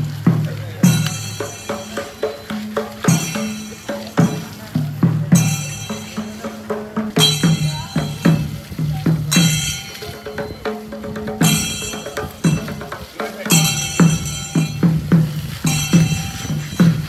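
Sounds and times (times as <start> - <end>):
drums and percussion beat: 0.0 - 17.0
held low notes: 0.0 - 17.0.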